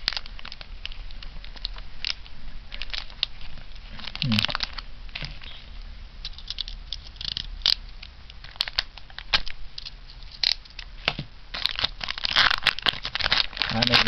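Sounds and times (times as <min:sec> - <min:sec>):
foil wrapper crinkling: 0:00.0 - 0:05.6, 0:06.2 - 0:14.0.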